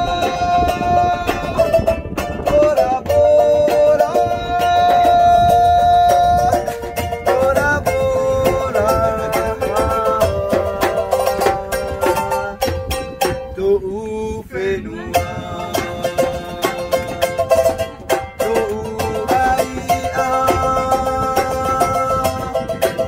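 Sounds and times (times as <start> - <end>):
ukulele strumming: 0.0 - 13.8, 14.8 - 23.0
man singing: 0.0 - 23.0.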